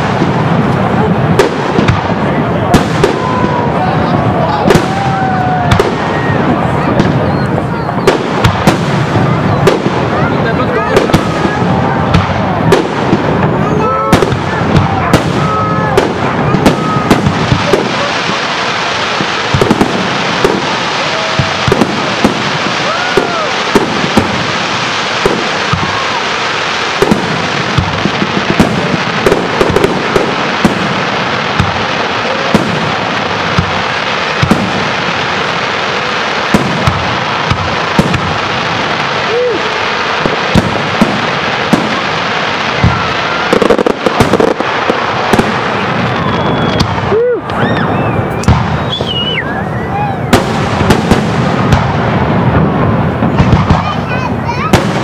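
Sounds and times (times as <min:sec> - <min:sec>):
crowd voices: 0:00.0 - 0:55.0
fireworks bangs: 0:00.0 - 0:55.0
fireworks crackle: 0:00.0 - 0:55.0.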